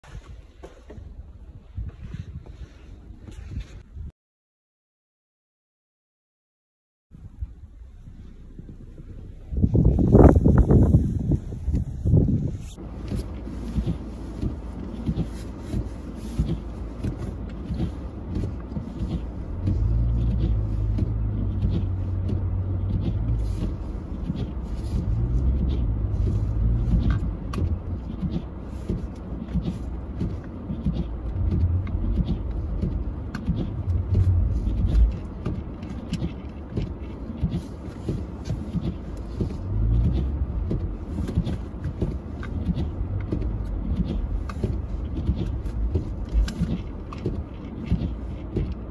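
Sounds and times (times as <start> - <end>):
car engine rumbling: 0.0 - 4.1, 7.1 - 48.9.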